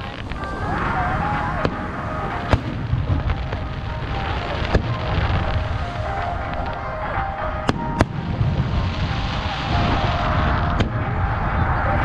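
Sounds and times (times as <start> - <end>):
fireworks bursting with sharp bangs: 0.0 - 12.0
low rumble of booms: 0.0 - 12.0.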